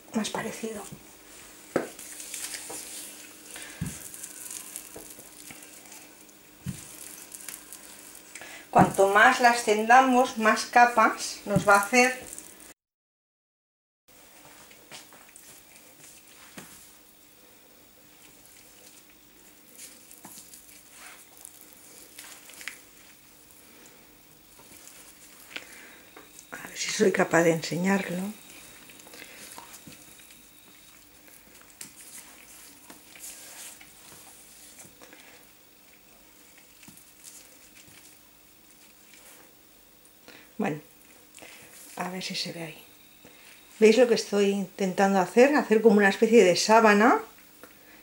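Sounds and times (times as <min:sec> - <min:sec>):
faint steady hum: 0:00.0 - 0:12.8, 0:14.1 - 0:48.0
gloved hands rustling dough: 0:00.2 - 0:12.7, 0:14.2 - 0:44.5.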